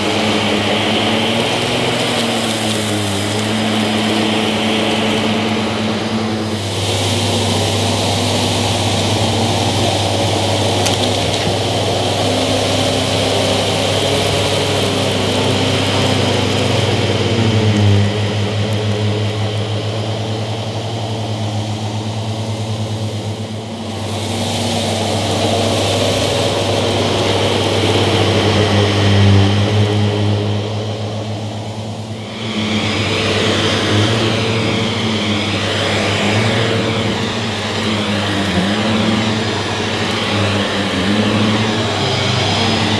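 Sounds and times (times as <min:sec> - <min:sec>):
vacuum cleaner running on carpet: 0:00.0 - 0:42.9.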